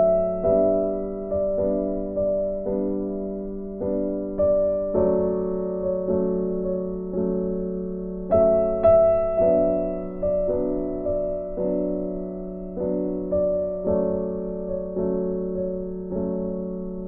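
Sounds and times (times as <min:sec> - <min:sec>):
slow electric piano chords: 0:00.0 - 0:17.0.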